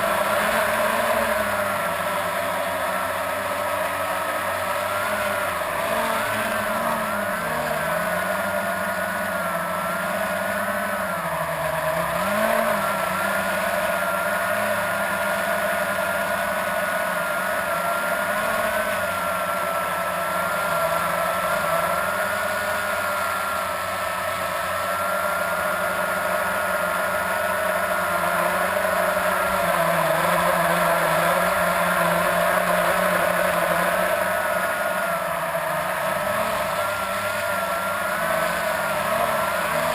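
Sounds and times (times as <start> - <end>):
quadcopter propellers humming: 0.0 - 39.9.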